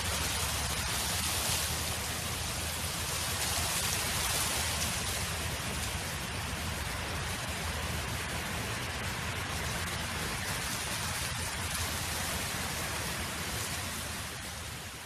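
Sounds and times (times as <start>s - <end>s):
wind hissing with low rumble: 0.0s - 15.0s.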